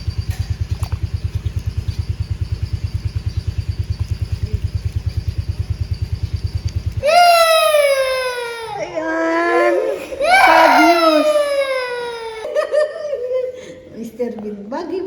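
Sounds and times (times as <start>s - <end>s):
small engine idling: 0.0s - 12.6s.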